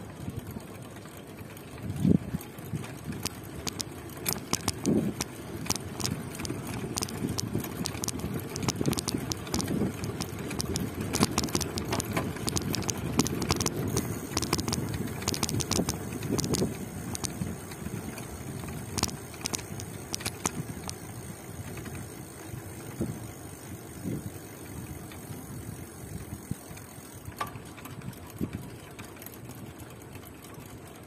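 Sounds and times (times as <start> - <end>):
bike road rumble: 0.0 - 31.0
small clicks and rattles: 0.0 - 31.0.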